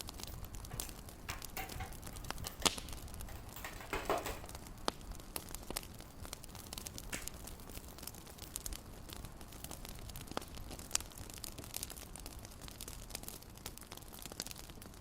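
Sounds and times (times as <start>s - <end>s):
fireplace crackling: 0.0s - 15.0s
low hiss: 0.0s - 15.0s.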